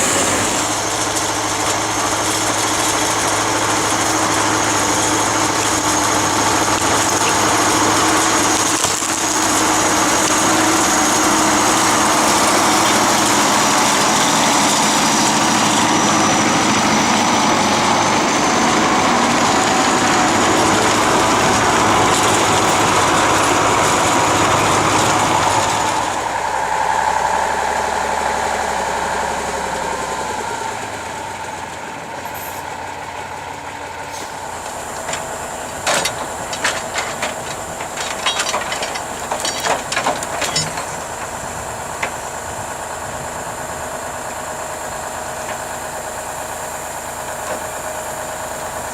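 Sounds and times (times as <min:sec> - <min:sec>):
engine running: 0:00.0 - 0:48.9.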